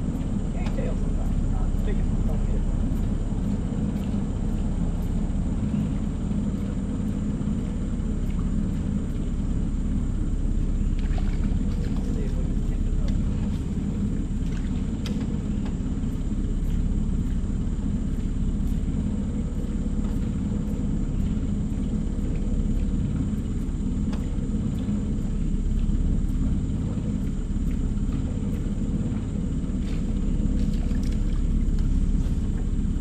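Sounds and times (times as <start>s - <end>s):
electric boat motor humming: 0.0s - 33.0s.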